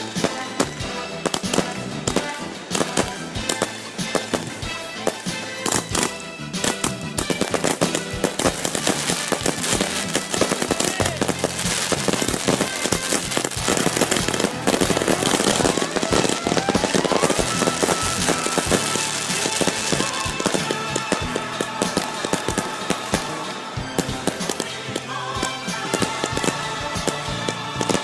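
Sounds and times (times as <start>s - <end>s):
fireworks bangs and crackling: 0.0s - 28.0s
music playing: 0.0s - 28.0s.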